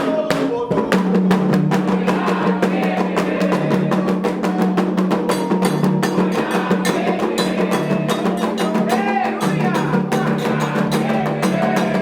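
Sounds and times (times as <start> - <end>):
hand drums playing fast rhythm: 0.0 - 12.0.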